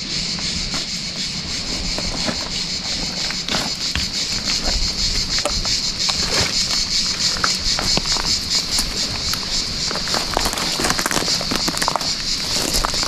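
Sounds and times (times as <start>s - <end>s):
cicadas singing: 0.0s - 13.0s
branches and stones crackling: 0.3s - 13.0s.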